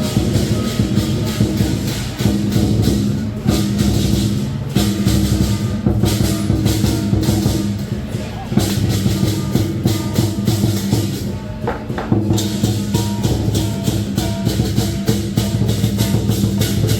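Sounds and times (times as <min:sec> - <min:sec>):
clashing cymbals: 0:00.0 - 0:16.9
large drum beaten fast: 0:00.0 - 0:16.9.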